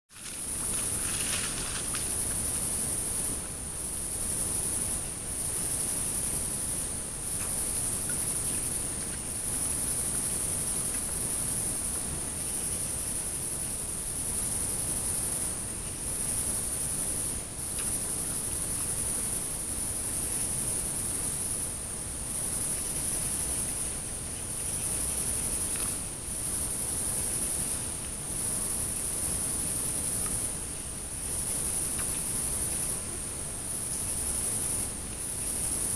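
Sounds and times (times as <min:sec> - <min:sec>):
crickets trilling: 0:00.1 - 0:35.9
faint low hiss: 0:00.1 - 0:35.9.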